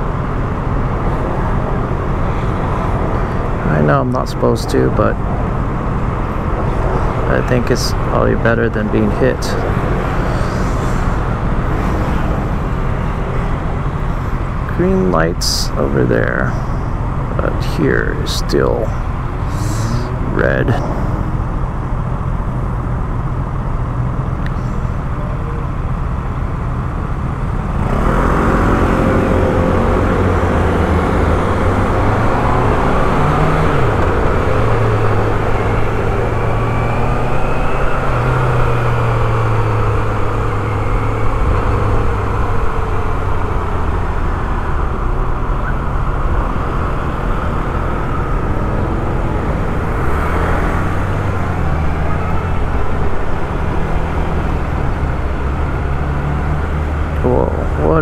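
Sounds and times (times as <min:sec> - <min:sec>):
road and wind noise: 0:00.0 - 0:58.0.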